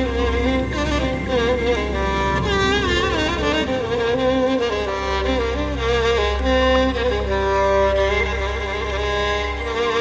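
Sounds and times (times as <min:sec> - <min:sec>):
pop music with bowed strings: 0:00.0 - 0:10.0.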